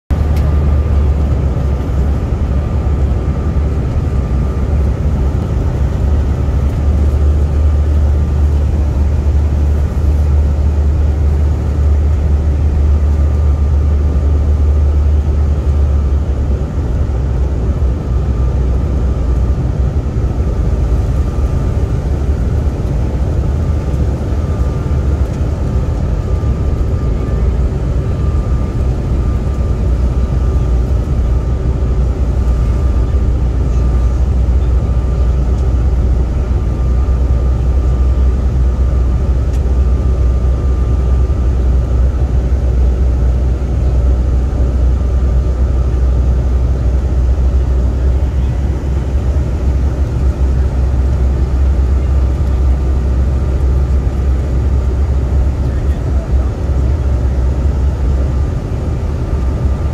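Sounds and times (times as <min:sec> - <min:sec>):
engine and airflow rumble: 0:00.1 - 0:59.9.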